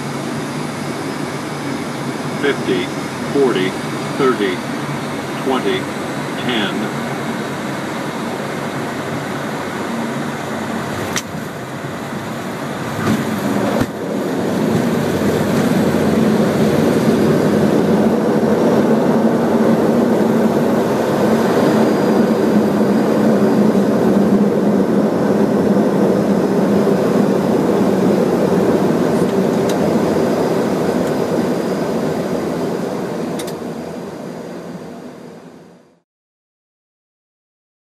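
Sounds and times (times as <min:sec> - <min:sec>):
airliner engines and rushing air: 0:00.0 - 0:36.0.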